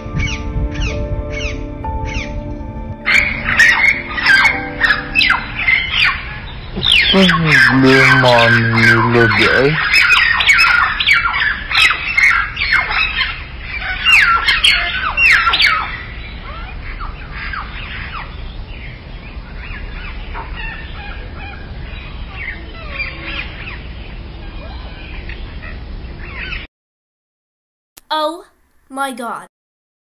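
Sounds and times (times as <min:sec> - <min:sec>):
birds chirping: 0:00.0 - 0:26.7.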